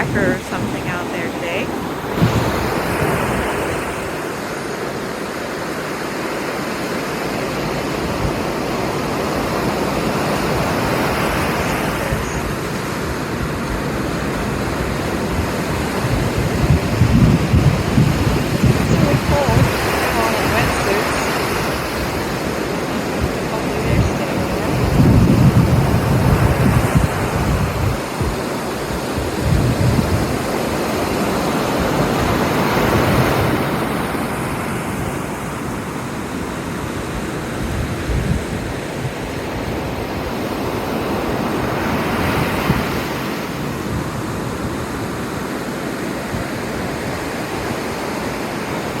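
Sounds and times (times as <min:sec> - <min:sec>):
wind buffeting microphone: 0:00.0 - 0:05.2, 0:07.4 - 0:49.0
surf breaking on shore: 0:00.0 - 0:49.0.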